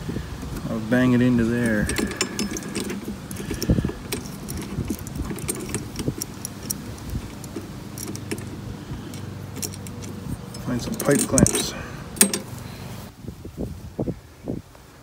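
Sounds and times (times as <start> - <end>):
metal parts clinking: 0.4 - 12.6.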